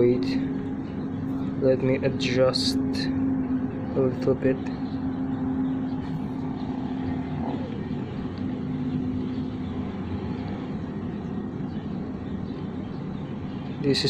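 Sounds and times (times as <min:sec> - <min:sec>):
droning tone: 0:00.0 - 0:14.0
noisy background: 0:00.0 - 0:14.0
steady low hum: 0:00.0 - 0:14.0.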